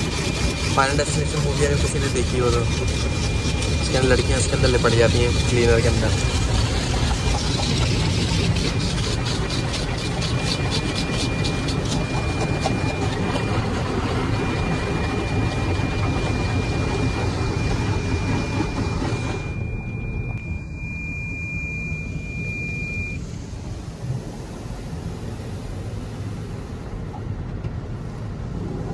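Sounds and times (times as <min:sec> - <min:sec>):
thin steady high tone: 0:00.1 - 0:23.6.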